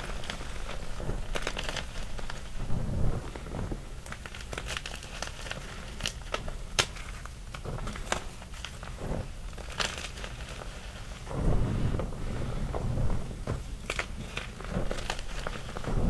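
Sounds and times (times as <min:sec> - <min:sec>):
chalk crushing snaps and crackles: 0:00.0 - 0:16.0
soft crunching rustle: 0:00.0 - 0:16.0.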